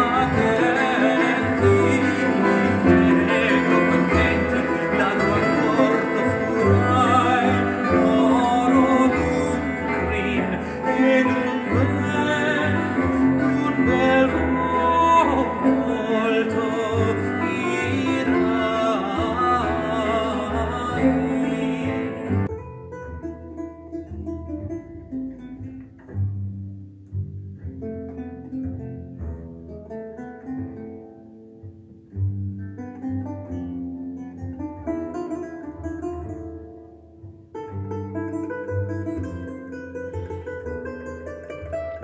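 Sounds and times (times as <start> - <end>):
classical opera-style string music: 0.0 - 42.0.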